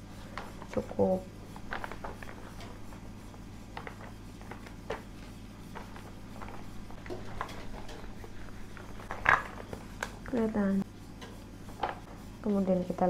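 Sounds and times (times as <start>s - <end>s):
low steady hum: 0.0s - 13.0s
plastic sheet crinkling: 0.3s - 10.8s.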